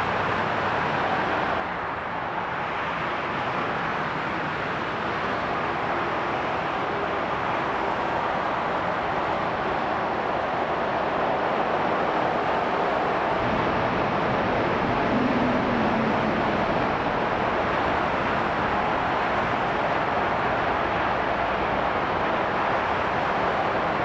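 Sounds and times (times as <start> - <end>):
jet engine roaring: 0.0 - 24.0.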